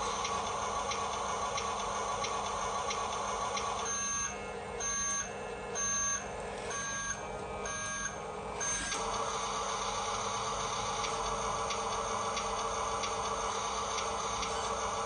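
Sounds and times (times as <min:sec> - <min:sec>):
toy truck reversing beeps: 0:00.2 - 0:15.0.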